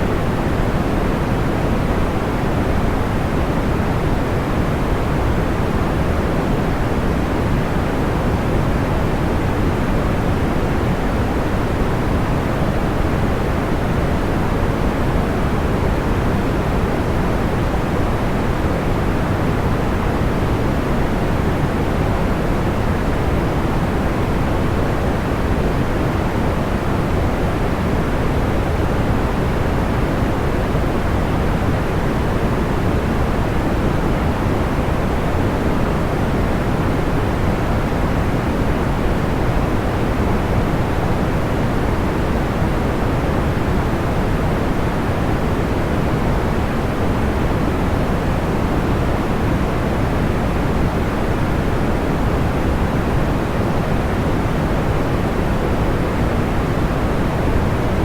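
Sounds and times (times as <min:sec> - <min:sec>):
soft background noise rush: 0:00.0 - 0:58.0.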